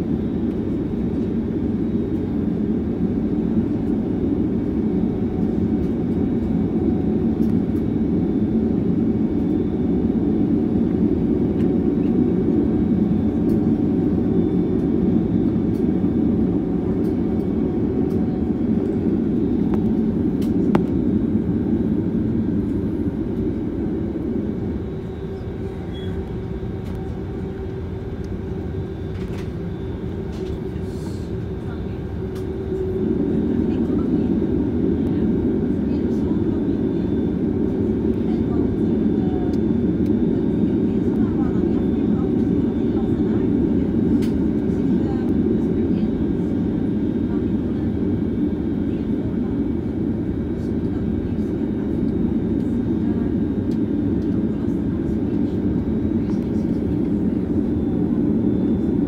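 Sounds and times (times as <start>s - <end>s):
jet engines rumbling inside cabin: 0.0s - 59.0s.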